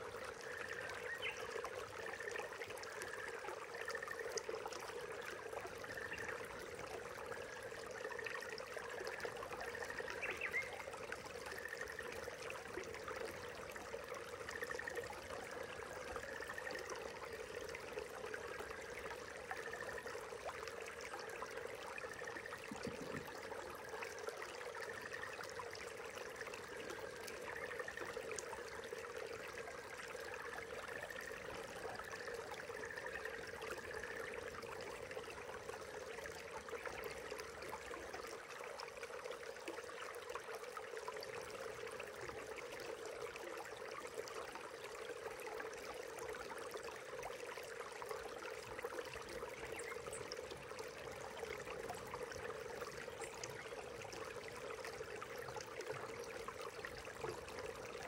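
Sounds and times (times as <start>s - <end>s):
brook babbling: 0.0s - 58.0s.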